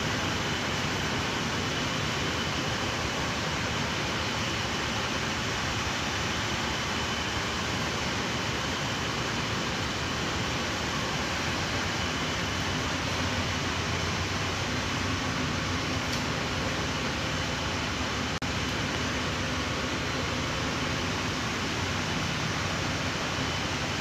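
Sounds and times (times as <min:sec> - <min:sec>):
machinery and ventilation drone: 0:00.0 - 0:24.0.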